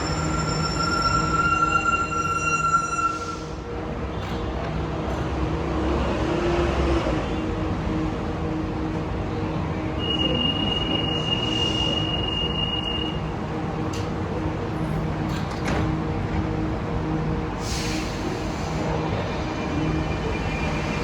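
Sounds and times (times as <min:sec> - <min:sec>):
metro train rumbling: 0:00.0 - 0:21.0.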